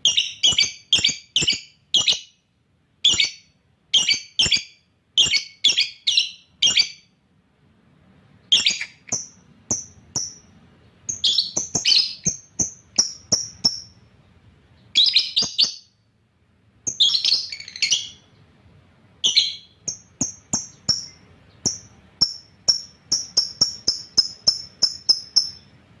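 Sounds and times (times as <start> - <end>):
lovebird chirping: 0.0 - 7.2, 8.4 - 16.1, 16.8 - 18.6, 19.2 - 26.0.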